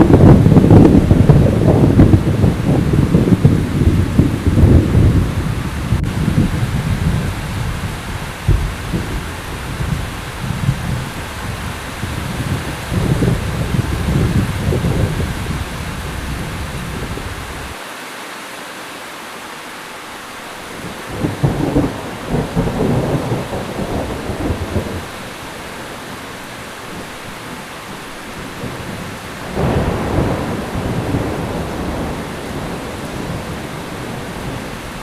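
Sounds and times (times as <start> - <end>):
thunder rumbling: 0.0 - 17.8, 20.7 - 35.0
heavy rain: 0.0 - 35.0.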